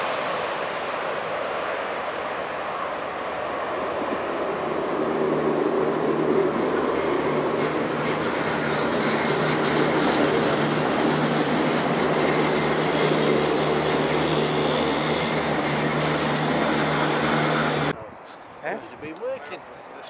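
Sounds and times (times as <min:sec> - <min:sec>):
jet engines rushing with high whine: 0:00.0 - 0:18.0.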